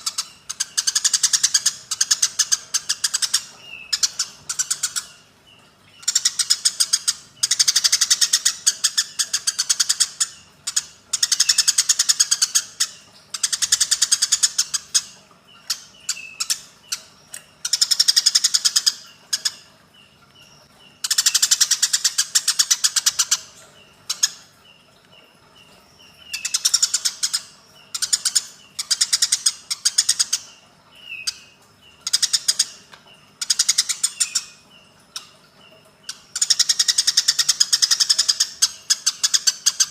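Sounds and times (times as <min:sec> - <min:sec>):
sparrows chirping rapidly: 0:00.0 - 0:39.9.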